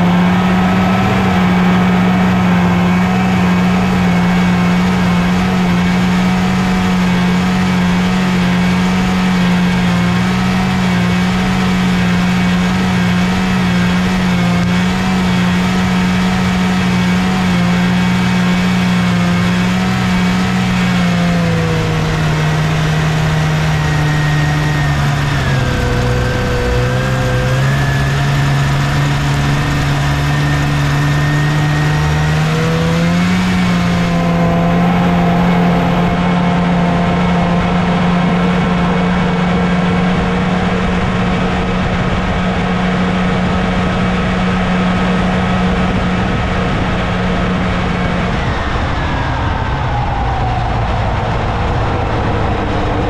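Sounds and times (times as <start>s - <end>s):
snowmobile two-stroke engine: 0.0s - 53.0s.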